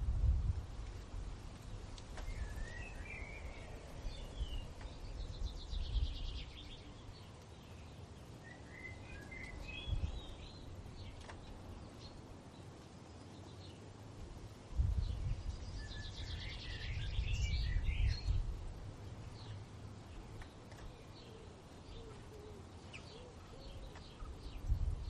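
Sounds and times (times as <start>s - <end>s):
wind rumble: 0.0s - 13.1s, 13.8s - 20.9s, 23.7s - 25.0s
songbirds singing: 0.0s - 25.0s.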